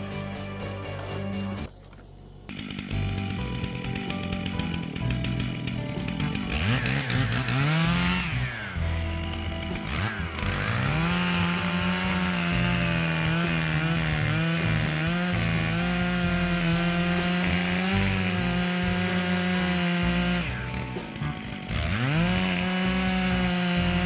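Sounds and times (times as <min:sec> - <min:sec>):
chainsaw running at high revs: 0:02.5 - 0:24.0.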